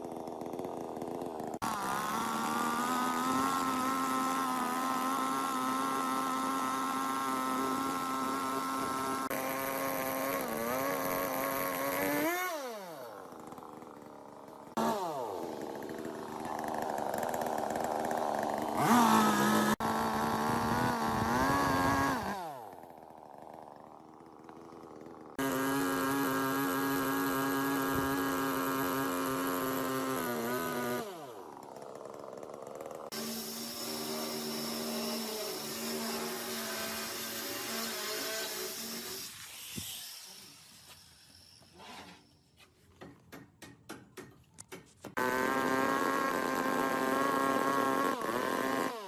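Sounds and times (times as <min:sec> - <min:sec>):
power tool motor whining: 0:00.0 - 0:42.6, 0:45.1 - 0:49.0.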